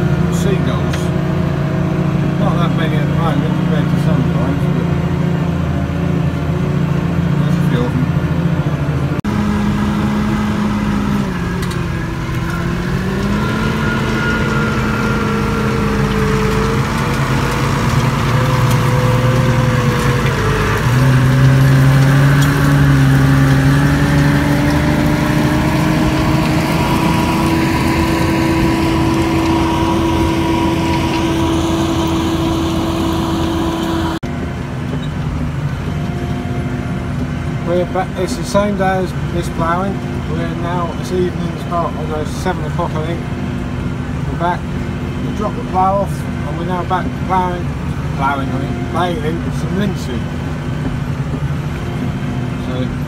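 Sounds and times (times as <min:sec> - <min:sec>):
tractor diesel engine: 0:00.0 - 0:53.0.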